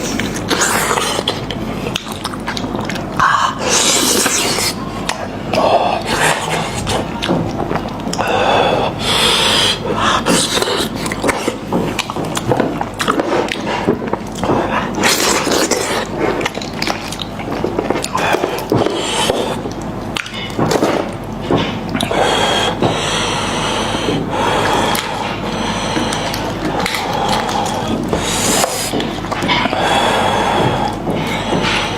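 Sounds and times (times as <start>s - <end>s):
close chewing and biting: 0.0s - 31.9s.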